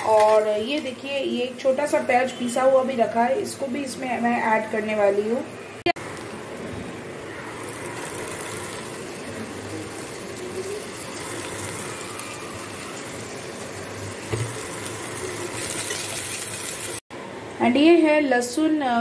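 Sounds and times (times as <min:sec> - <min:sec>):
onion sizzling in hot oil: 0:00.0 - 0:17.0.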